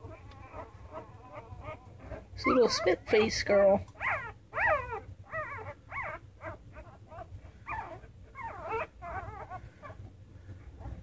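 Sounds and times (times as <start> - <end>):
puppies whimpering and squealing: 0.0 - 10.1.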